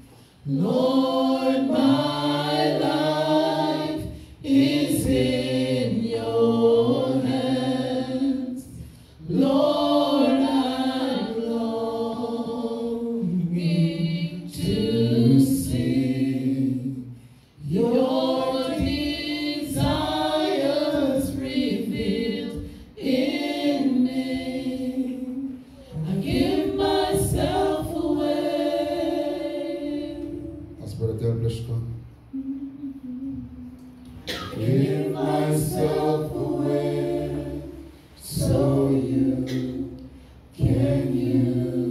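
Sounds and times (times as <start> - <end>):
women singing a worship song: 0.0 - 30.8, 32.4 - 41.9.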